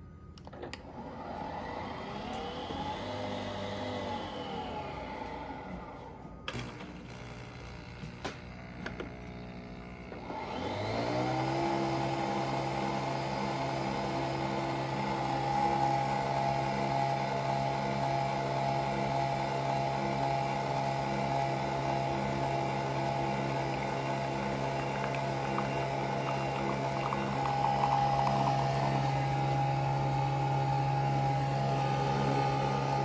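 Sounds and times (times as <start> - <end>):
coffee machine motor humming: 0.5 - 33.0.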